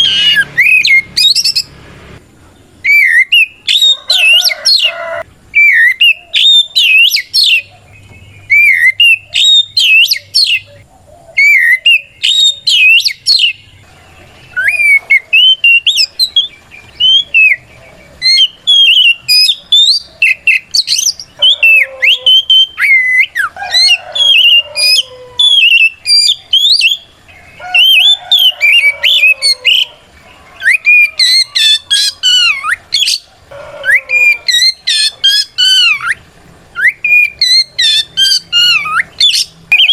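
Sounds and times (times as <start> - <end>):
bird singing whistled notes: 0.0 - 1.7, 2.8 - 39.9.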